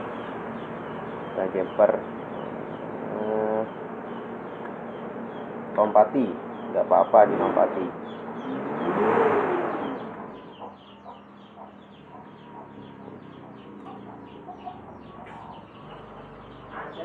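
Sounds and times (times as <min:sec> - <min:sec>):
lower bird clucking calls: 0:00.0 - 0:17.0.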